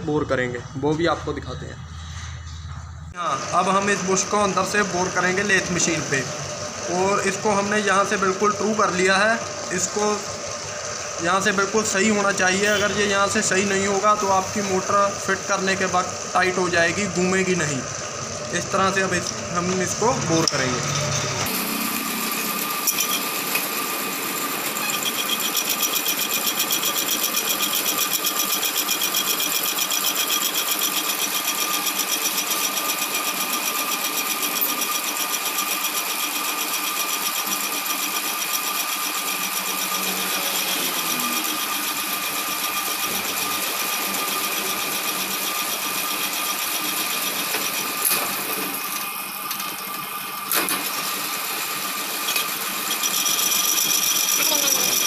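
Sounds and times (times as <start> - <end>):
metal lathe boring: 3.2 - 55.0.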